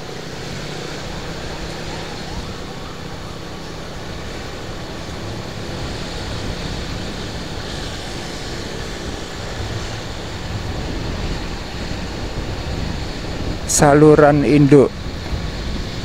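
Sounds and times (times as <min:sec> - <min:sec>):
passing traffic: 0:00.0 - 0:16.0
tyres rushing on road: 0:00.0 - 0:16.0
vehicle engine running: 0:00.0 - 0:16.0.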